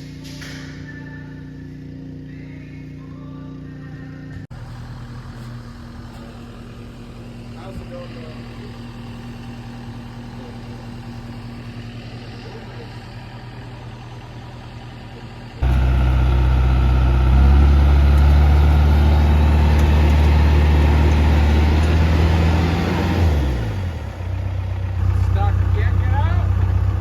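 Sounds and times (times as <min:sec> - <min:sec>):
engine idling: 0:00.0 - 0:27.0
engine revving: 0:04.5 - 0:27.0.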